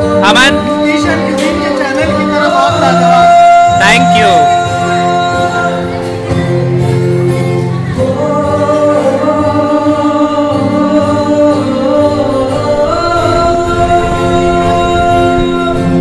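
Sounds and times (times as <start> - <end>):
acoustic guitar: 0.0 - 16.0
person singing: 0.0 - 16.0.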